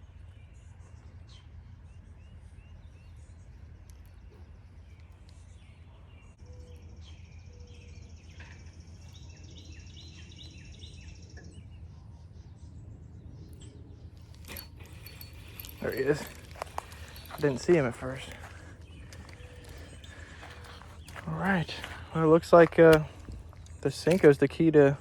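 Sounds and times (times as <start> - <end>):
birds chirping and singing: 0.3 - 25.0.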